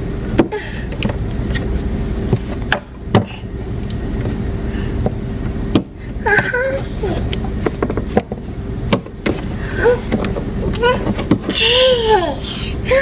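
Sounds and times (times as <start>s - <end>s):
low rumble with faint hum: 0.0s - 13.0s.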